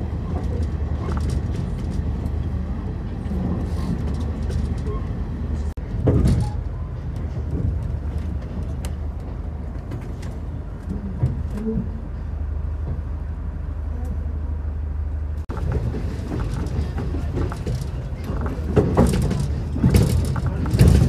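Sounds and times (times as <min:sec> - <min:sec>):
train rumbling inside carriage: 0:00.0 - 0:21.0.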